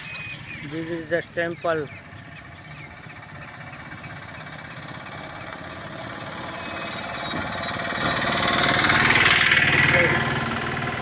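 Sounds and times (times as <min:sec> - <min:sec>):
small vehicle engine approaching: 0:00.0 - 0:11.0.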